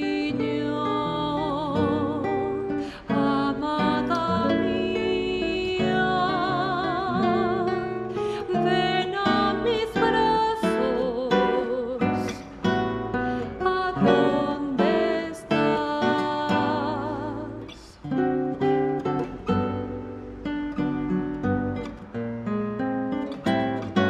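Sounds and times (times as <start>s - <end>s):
classical guitar melody: 0.0s - 24.0s.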